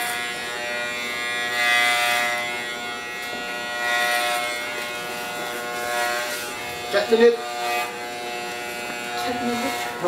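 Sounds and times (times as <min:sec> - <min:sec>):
electric hair clippers buzzing: 0:00.0 - 0:10.0.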